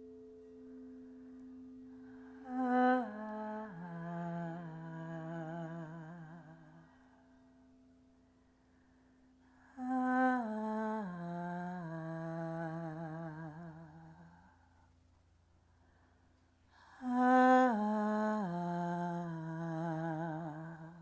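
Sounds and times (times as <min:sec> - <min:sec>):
faint steady tone: 0:00.0 - 0:21.0.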